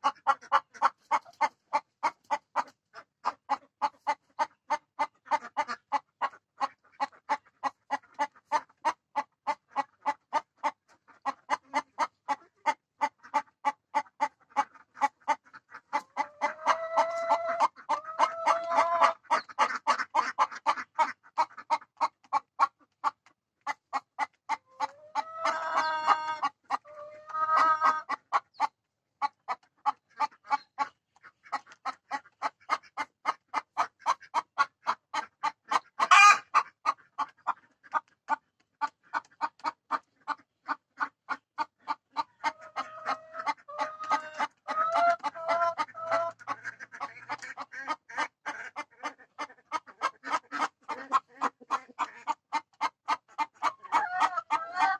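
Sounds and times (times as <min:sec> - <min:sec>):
hen clucking: 0:00.0 - 0:54.9.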